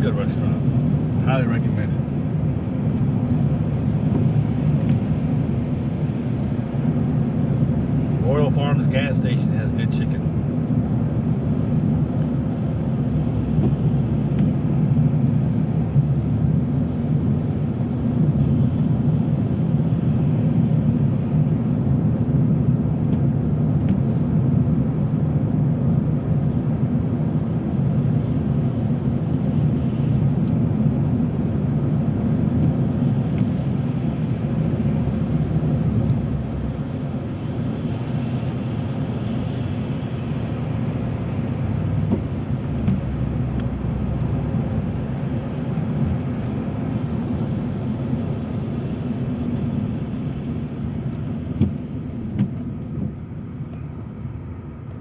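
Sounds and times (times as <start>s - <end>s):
car engine and tyres drone: 0.0s - 55.0s.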